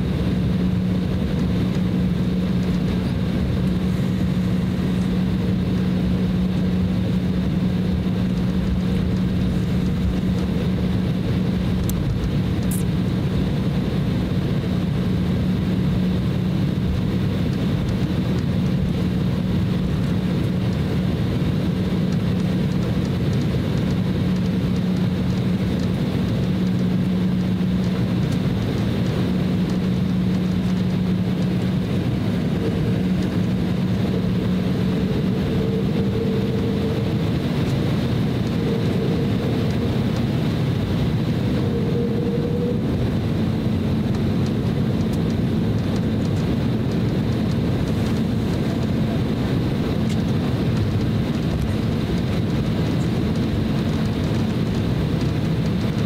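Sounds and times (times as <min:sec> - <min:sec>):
higher hum: 0:00.0 - 0:53.7
continuous rumble: 0:00.0 - 0:56.0
faint high engine whine: 0:00.0 - 0:56.0
jet engines droning at taxi power: 0:00.0 - 0:56.0.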